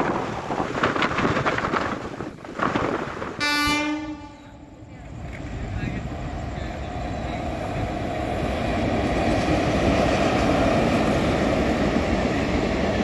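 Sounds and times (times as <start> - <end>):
express train passing at speed: 0.0 - 13.0.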